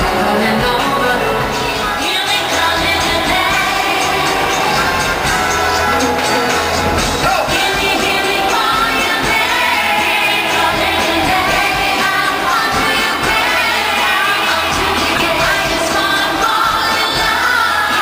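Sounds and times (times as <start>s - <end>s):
woman singing into a microphone: 0.0s - 5.0s, 7.5s - 18.0s
loud band music: 0.0s - 18.0s.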